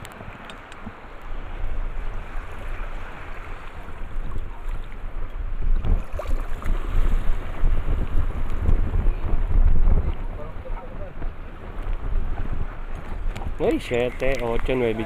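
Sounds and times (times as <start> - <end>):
choppy lake water: 0.0 - 15.0
wind buffeting microphone: 0.0 - 15.0.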